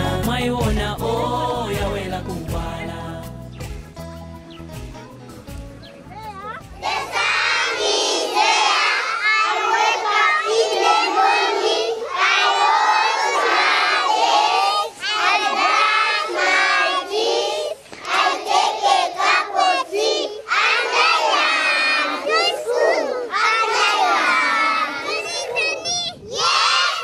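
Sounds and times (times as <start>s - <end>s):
children shouting and singing: 4.9s - 27.0s.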